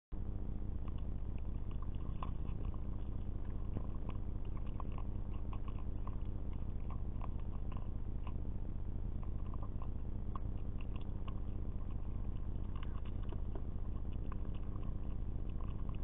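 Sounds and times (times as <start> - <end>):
low hum: 0.2 - 16.0
animal chewing and nibbling: 0.5 - 16.0.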